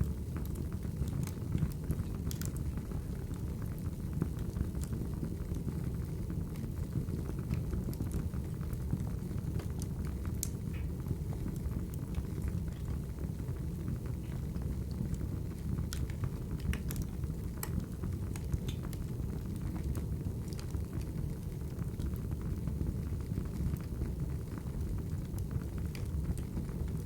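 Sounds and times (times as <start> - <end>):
crackling wood fire: 0.0 - 27.0.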